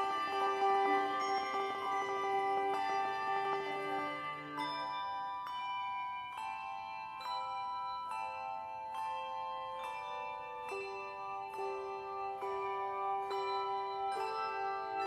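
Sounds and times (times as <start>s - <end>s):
handbell choir playing: 0.0s - 15.0s.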